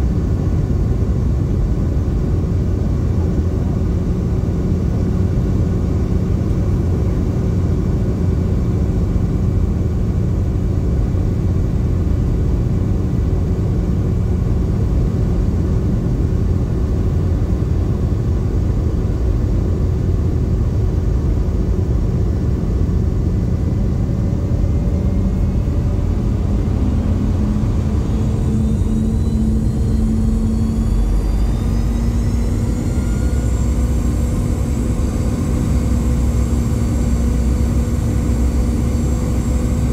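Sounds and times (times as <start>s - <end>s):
jet engine drone with whine: 0.0s - 39.9s.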